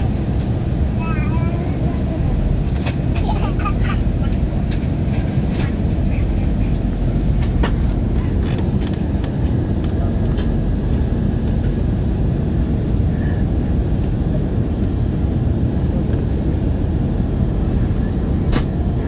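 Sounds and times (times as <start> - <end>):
jet engine roar inside cabin: 0.0 - 19.0.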